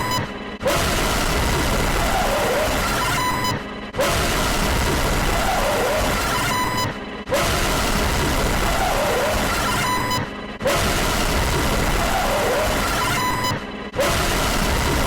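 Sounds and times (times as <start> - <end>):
harsh wall of noise: 0.0 - 15.0.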